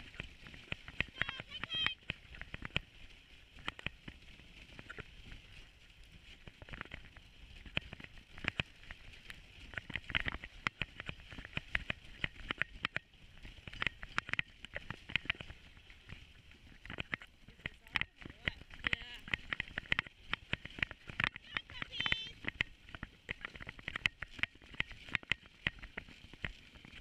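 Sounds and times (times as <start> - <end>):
sled runners on snow: 0.0 - 27.0.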